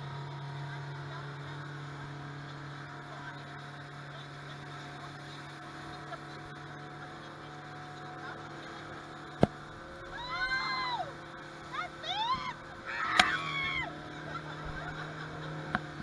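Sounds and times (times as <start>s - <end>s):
motorboat engine humming: 0.0s - 16.0s
wind and water noise: 0.0s - 16.0s.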